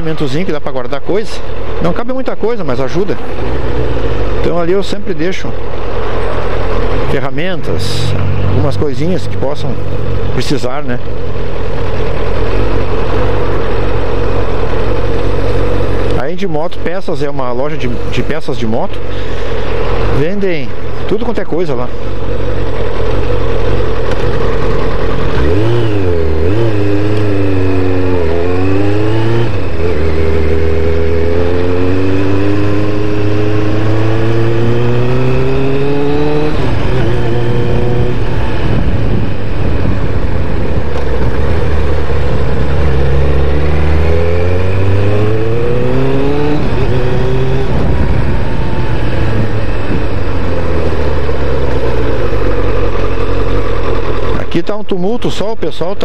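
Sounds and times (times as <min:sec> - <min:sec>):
motorcycle engine accelerating: 0:00.0 - 0:55.4.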